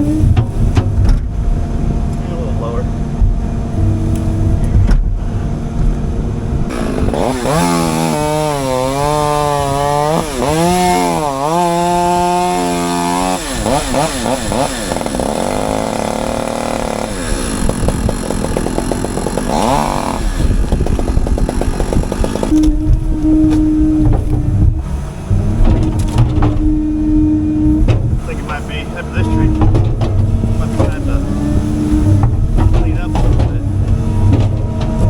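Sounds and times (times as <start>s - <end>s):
engine revving: 0.0s - 35.0s.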